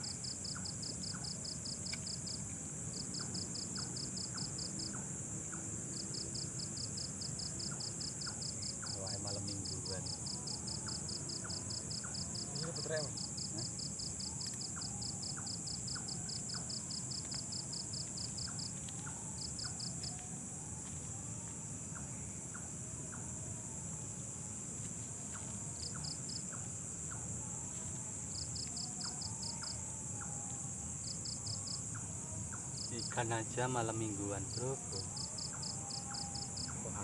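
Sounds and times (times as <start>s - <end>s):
cricket chirping: 0.0s - 37.0s
high-pitched insect drone: 0.0s - 37.0s.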